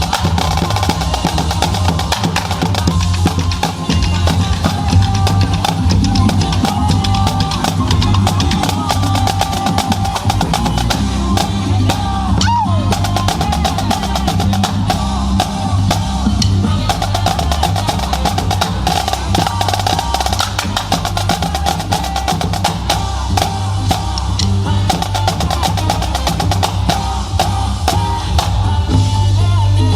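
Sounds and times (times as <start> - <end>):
drum-heavy music: 0.0 - 29.9
steady bass: 0.0 - 29.9.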